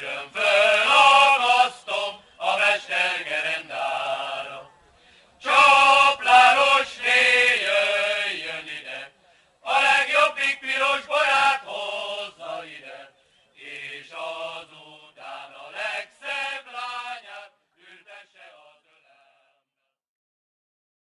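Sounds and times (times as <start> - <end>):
man singing unaccompanied: 0.0 - 4.6, 5.4 - 9.1, 9.7 - 18.7.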